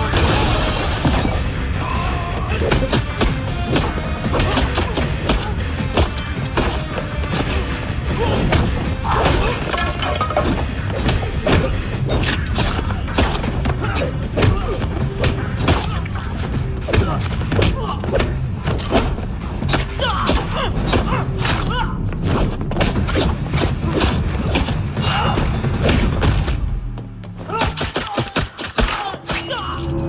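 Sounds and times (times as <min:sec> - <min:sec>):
pounding background score: 0:00.0 - 0:30.0.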